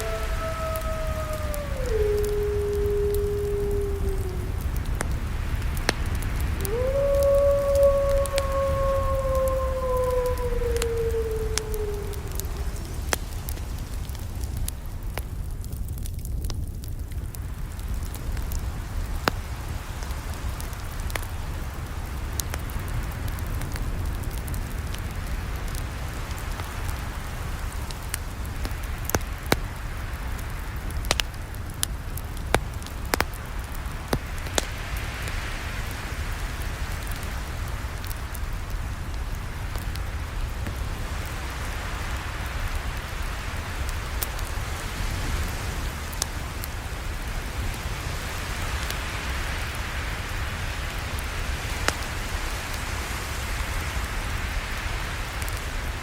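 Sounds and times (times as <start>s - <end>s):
burning wood popping and crackling: 0.0s - 36.0s, 37.0s - 56.0s
campfire flames hissing: 0.0s - 56.0s.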